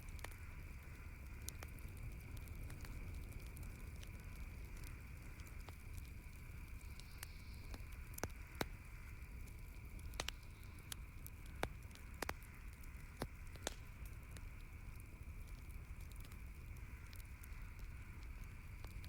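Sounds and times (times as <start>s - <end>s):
burning wood popping: 0.0s - 19.0s
campfire crackling: 0.0s - 19.0s.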